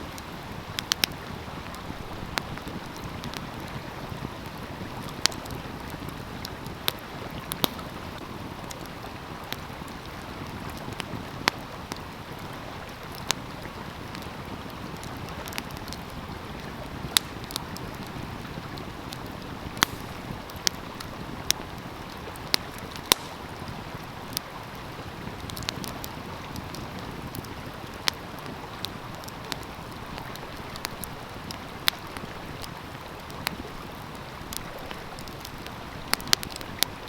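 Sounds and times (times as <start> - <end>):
stream flowing: 0.0 - 37.0
wood fire crackling: 0.0 - 37.0.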